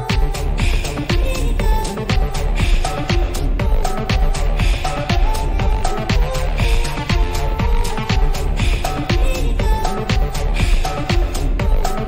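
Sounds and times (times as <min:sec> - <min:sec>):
electronic house music: 0:00.0 - 0:12.0.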